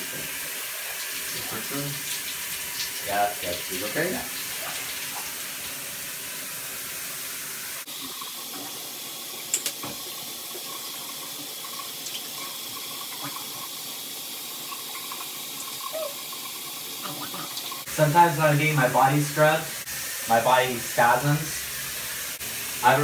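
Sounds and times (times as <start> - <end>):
shower water spraying: 0.0 - 23.0.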